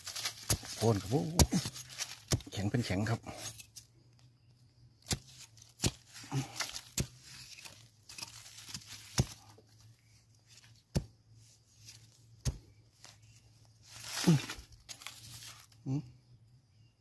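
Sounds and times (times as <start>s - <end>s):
earth scratching and crumbling: 0.0s - 3.9s, 5.0s - 11.1s, 11.8s - 15.8s.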